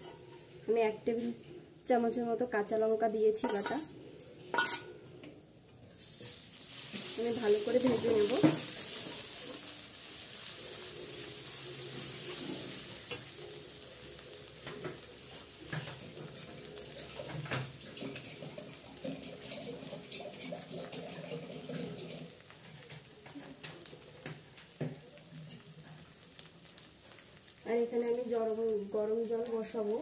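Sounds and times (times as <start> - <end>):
spice paste sizzling in oil: 5.9 - 30.0.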